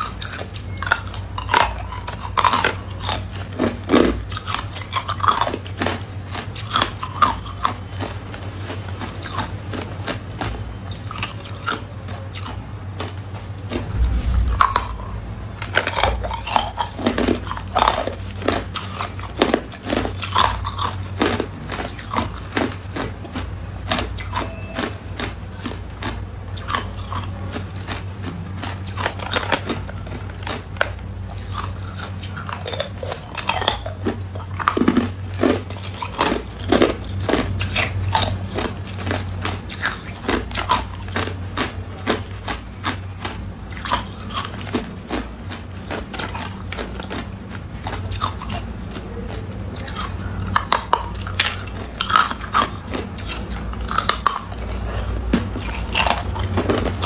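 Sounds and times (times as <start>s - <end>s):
ice crunching between teeth: 0.0s - 15.0s, 15.8s - 57.0s
steady low hum: 0.0s - 57.0s.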